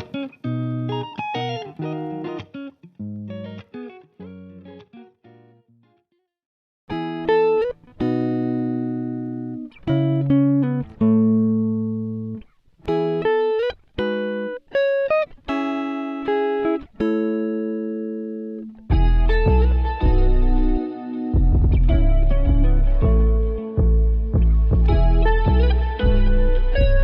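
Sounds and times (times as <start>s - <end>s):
plucked guitar music: 0.0s - 6.2s, 6.9s - 27.0s.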